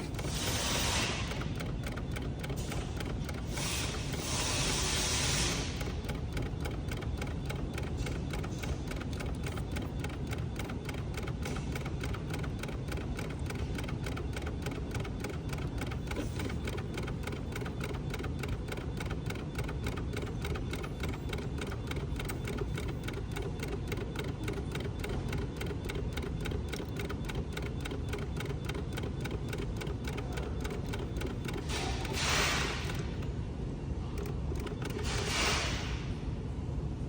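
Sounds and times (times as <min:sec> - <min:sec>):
machine ticking rapidly: 0:00.0 - 0:33.4, 0:34.0 - 0:36.0
machine low rumble: 0:00.0 - 0:37.0.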